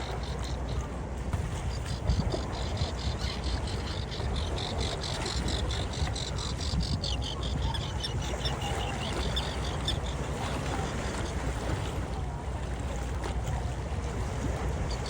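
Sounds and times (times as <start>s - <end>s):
surf on a beach: 0.0s - 15.0s
wind: 0.0s - 15.0s.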